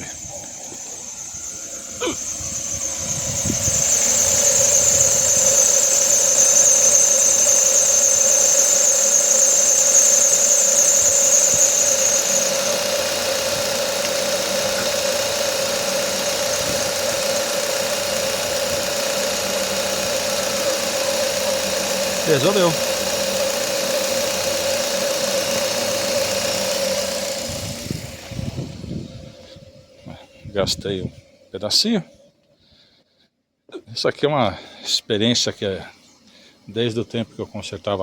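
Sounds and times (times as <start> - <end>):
drive belt squealing: 0.0 - 32.0
engine running: 0.0 - 32.2.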